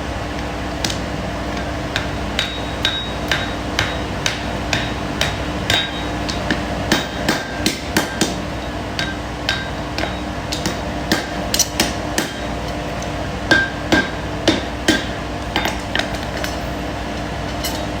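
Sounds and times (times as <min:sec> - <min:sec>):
steady hum: 0:00.0 - 0:18.0
hammer striking steel on anvil: 0:00.8 - 0:12.6, 0:13.4 - 0:16.7, 0:17.5 - 0:18.0.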